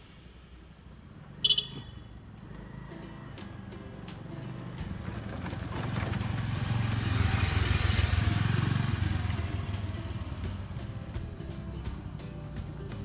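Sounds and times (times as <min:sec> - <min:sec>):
vehicle engine passing: 0:02.2 - 0:13.0.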